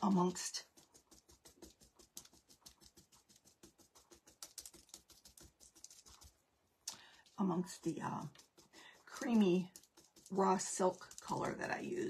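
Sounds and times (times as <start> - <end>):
paintbrush dabbing and brushing: 0.0 - 12.0.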